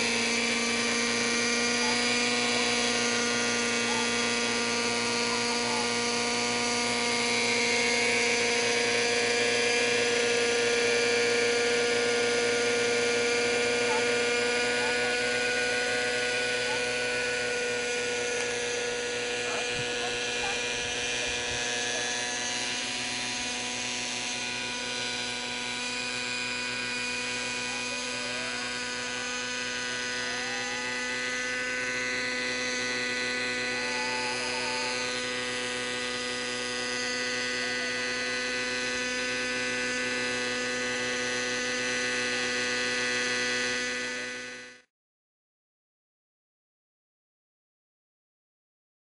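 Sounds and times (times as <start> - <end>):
model helicopter engine buzzing: 0.0 - 44.9.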